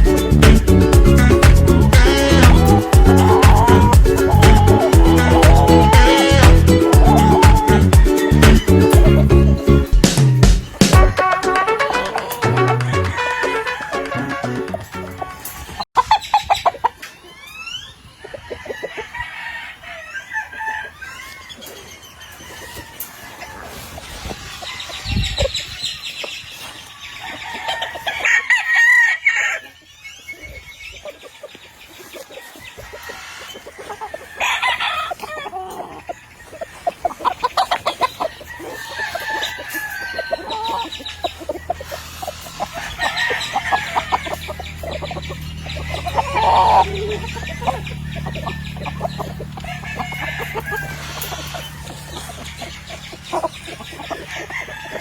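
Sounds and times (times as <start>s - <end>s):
chickens clucking: 0.0s - 55.0s
roosters crowing: 0.0s - 55.0s.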